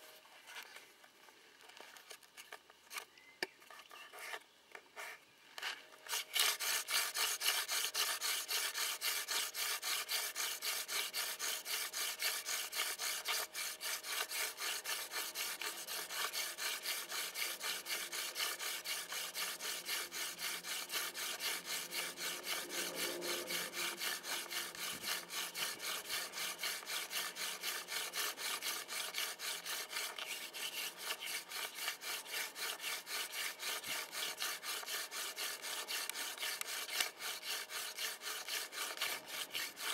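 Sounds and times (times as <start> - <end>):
spindle rubbing on wooden board: 6.1 - 39.9.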